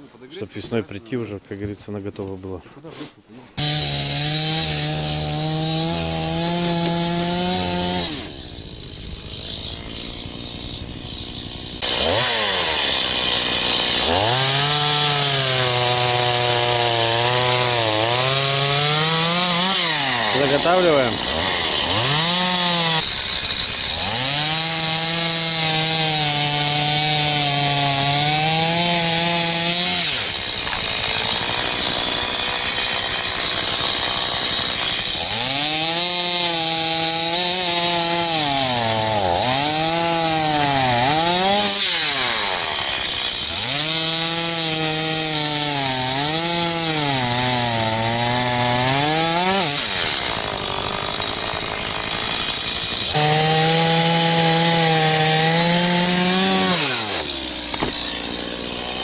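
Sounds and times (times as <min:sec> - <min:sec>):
chainsaw cutting wood: 0:03.6 - 0:59.0.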